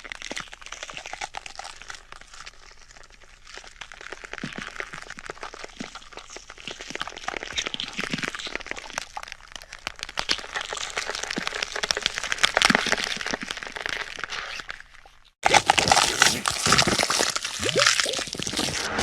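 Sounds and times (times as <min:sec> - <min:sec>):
bones cracking and crunching: 0:00.0 - 0:19.0.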